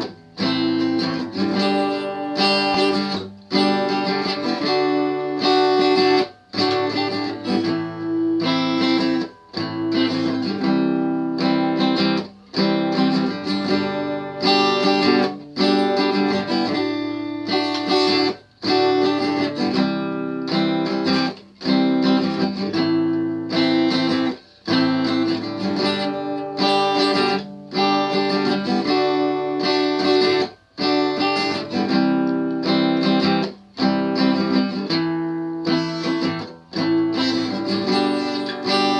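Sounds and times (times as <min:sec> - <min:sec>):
guitar strumming chords: 0:00.0 - 0:38.9.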